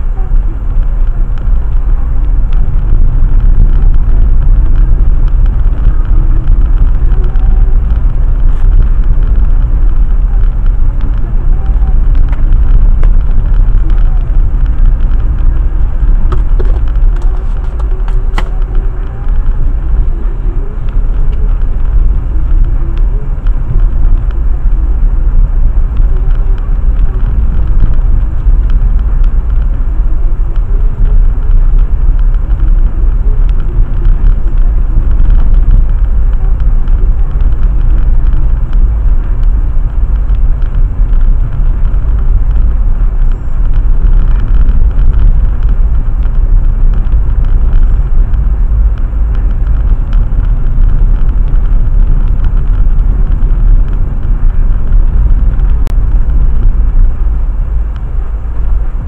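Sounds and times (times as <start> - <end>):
tyres rumbling on gravel road: 0.0 - 59.0.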